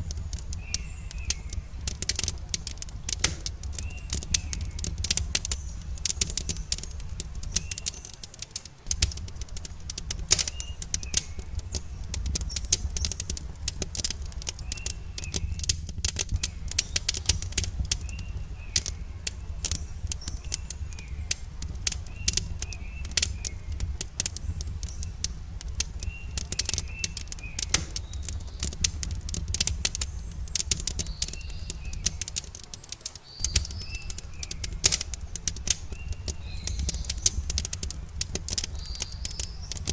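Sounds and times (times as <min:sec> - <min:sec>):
birds chirping: 0:00.0 - 0:39.9
campfire crackling and popping: 0:00.0 - 0:39.9.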